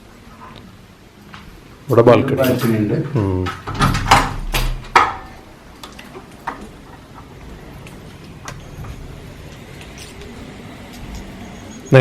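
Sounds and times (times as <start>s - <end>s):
balcony door opening: 2.4s - 12.0s.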